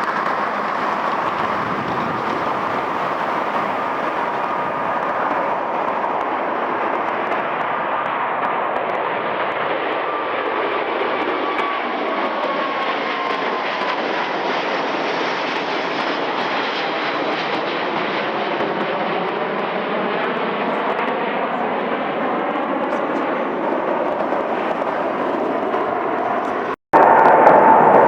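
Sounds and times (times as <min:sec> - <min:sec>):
jet engine noise with whine: 0:00.0 - 0:28.0.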